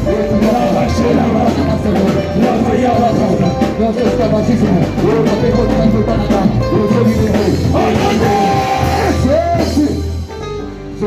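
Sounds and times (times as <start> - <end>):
voices singing: 0.0 - 10.1
steady bass line: 0.0 - 11.0
worship band music: 0.0 - 11.0.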